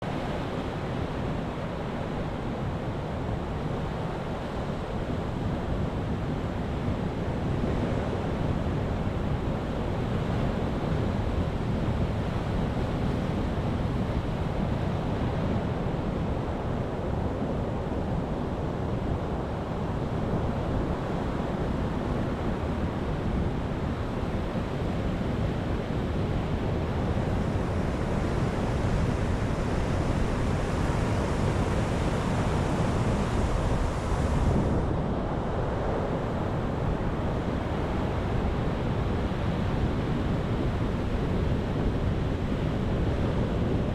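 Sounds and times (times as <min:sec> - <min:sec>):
ocean waves surging on beach: 0:00.1 - 0:43.9.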